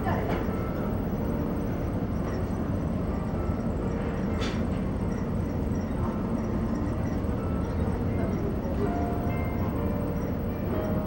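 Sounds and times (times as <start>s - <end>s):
engine and ventilation rumble: 0.0s - 11.0s.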